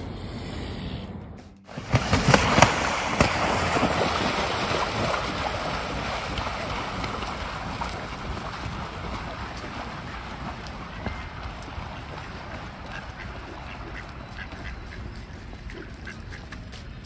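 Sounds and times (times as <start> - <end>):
swans splashing and beating wings: 1.7 - 17.0.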